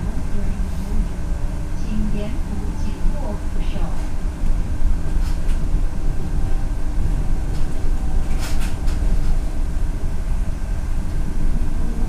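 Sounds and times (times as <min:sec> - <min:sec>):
train low rumble and hum: 0:00.0 - 0:12.0.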